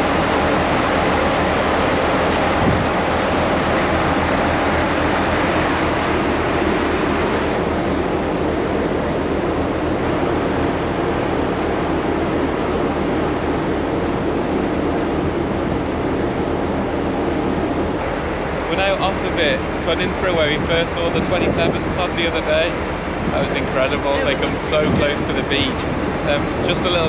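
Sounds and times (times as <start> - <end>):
sea rushing: 0.0 - 27.0
ship engines humming: 0.0 - 27.0
wind rushing: 1.0 - 27.0.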